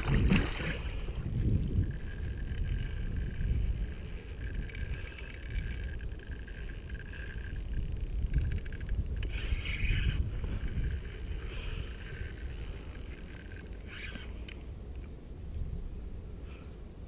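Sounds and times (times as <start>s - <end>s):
wind buffeting microphone: 0.0s - 14.2s
quick ticks: 0.0s - 15.1s
faint thin whirr: 0.0s - 17.0s.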